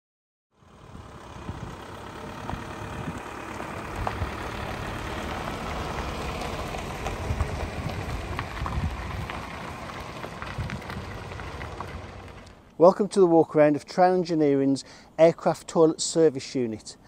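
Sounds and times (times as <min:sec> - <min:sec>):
truck engine and tyre rumble: 0:00.5 - 0:17.0.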